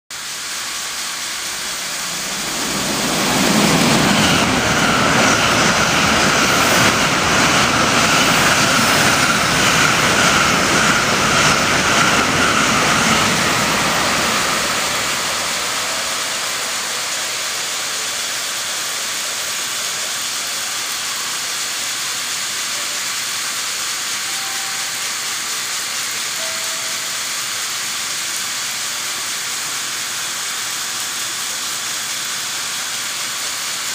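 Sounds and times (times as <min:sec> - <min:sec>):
water sprinklers hissing: 0:00.1 - 0:33.9
train rushing past: 0:00.2 - 0:33.9.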